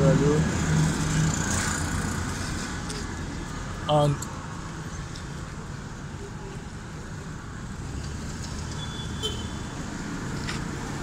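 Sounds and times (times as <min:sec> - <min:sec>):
light street traffic: 0:00.0 - 0:11.0.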